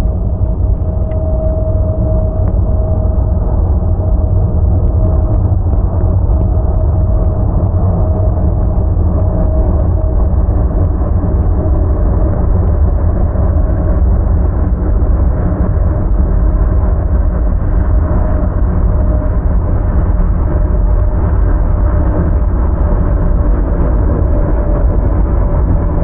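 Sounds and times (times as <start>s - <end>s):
freight train rumbling: 0.0s - 26.0s
wind buffeting microphone: 0.0s - 26.0s.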